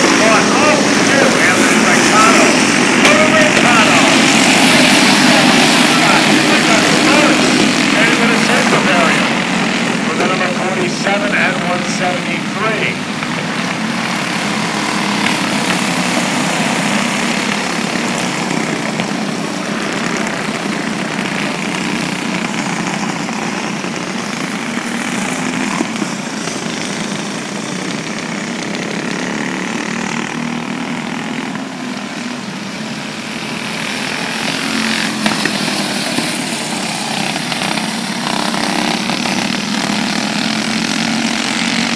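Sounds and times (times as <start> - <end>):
racing kart engines running: 0.0 - 41.9.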